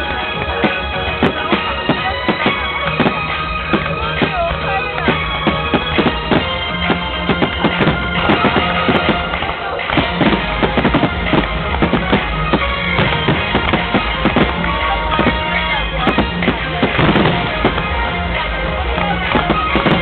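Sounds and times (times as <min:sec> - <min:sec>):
fireworks bursts: 0:00.0 - 0:20.0
loud music: 0:00.0 - 0:20.0.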